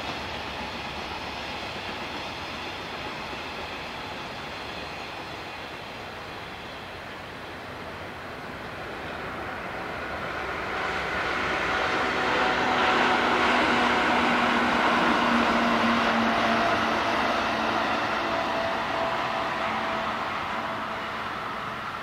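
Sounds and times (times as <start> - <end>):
freight train wagons rumbling: 0.0 - 22.0.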